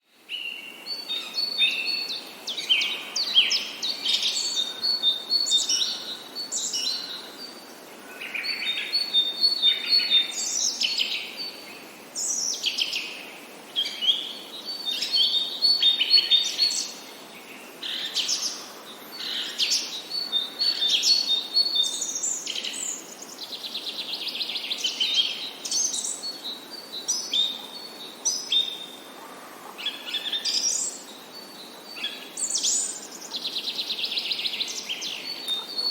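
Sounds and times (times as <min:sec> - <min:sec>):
birds singing: 0:00.4 - 0:35.9.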